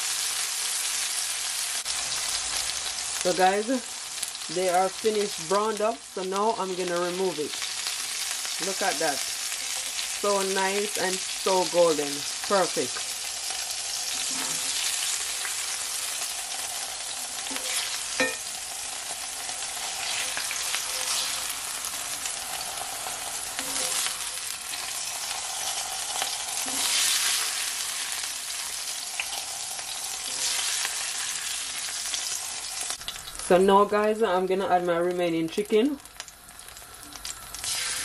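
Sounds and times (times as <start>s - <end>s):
chicken sizzling in hot oil: 0.0s - 34.6s, 35.2s - 38.0s.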